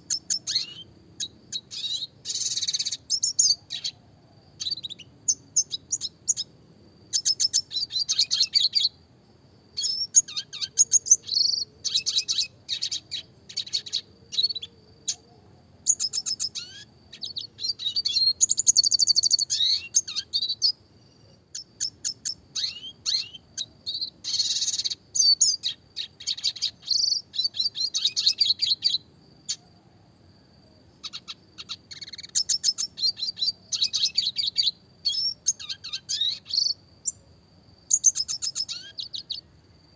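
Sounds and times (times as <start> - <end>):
bird chirping and trilling: 0.0 - 4.0, 4.6 - 6.5, 7.1 - 9.0, 9.8 - 15.3, 15.9 - 29.7, 31.0 - 37.2, 37.9 - 39.4.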